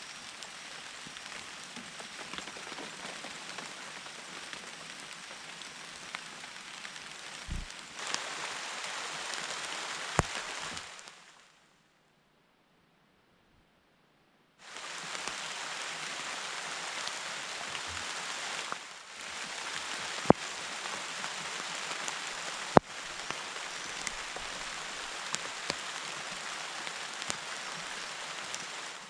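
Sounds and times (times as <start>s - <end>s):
rain on leaves: 0.0s - 11.7s, 14.6s - 29.0s.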